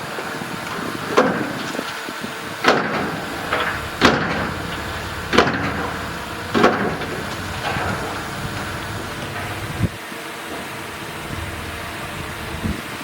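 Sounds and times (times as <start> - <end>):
bulldozer diesel engine running: 0.0 - 13.0
loud engine bursts: 2.4 - 13.0.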